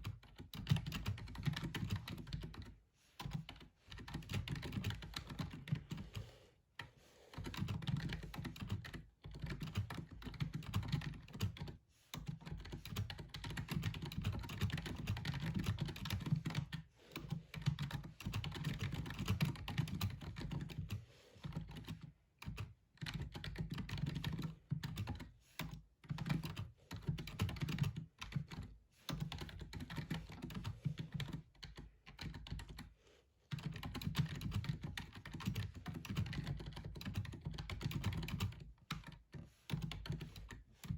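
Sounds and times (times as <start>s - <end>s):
rapid keyboard typing: 0.0s - 32.9s, 33.5s - 40.9s.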